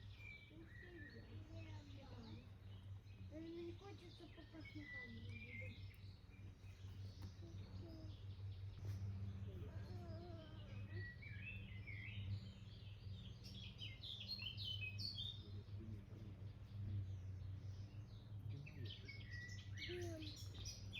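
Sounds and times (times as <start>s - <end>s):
songbirds chirping and singing: 0.0s - 20.9s
steady low hum: 0.0s - 20.9s.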